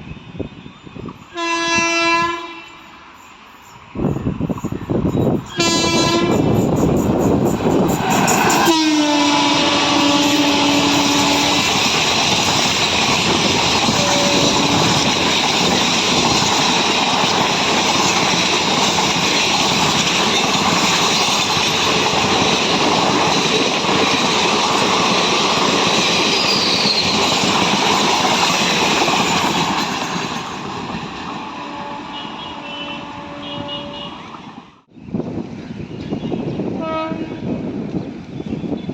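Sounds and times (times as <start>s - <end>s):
train rushing past: 0.0s - 38.9s.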